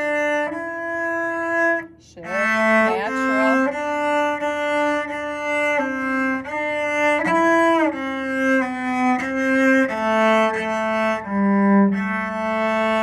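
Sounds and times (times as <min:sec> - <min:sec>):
cello bowed notes: 0:00.0 - 0:13.0.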